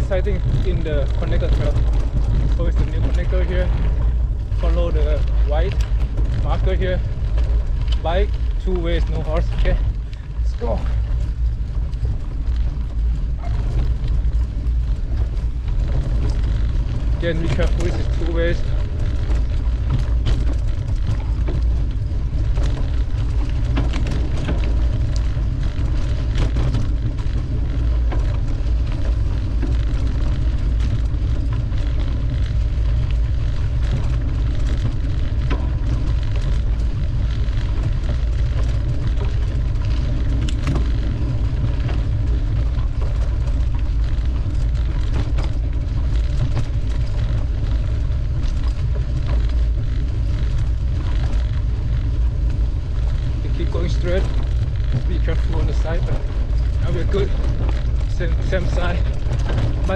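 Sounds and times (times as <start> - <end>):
bike clicks and rattles: 0.0 - 59.9
wind rumble on microphone: 0.0 - 59.9.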